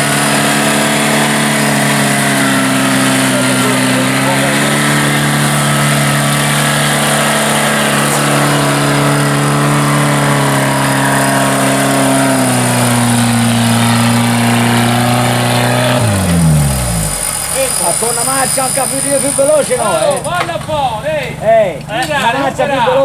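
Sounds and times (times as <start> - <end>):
off-road engine revving high: 0.0 - 20.3.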